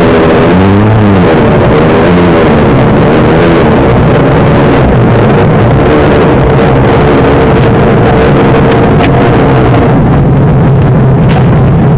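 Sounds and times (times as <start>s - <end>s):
car engine running: 0.0s - 11.9s
steady droning tone: 0.0s - 11.9s.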